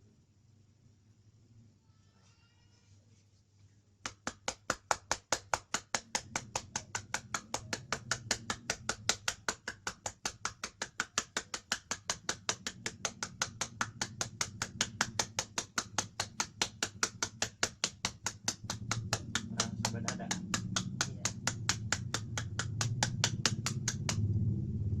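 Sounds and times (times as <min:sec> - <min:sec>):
rapid fingers tapping: 0:04.0 - 0:24.4.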